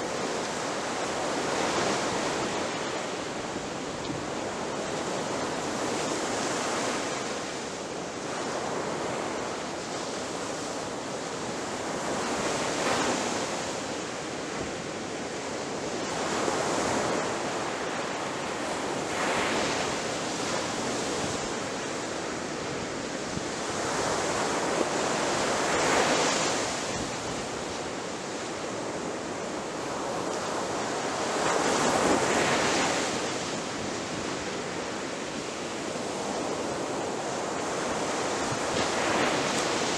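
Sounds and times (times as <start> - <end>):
ocean waves crashing on shore: 0.0 - 39.9.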